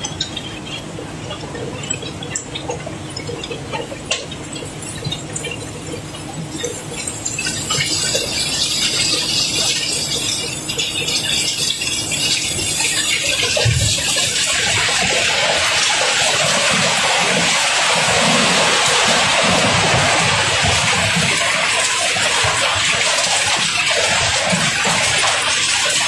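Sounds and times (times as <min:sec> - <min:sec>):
cobblestones pouring and clattering: 0:01.3 - 0:26.0.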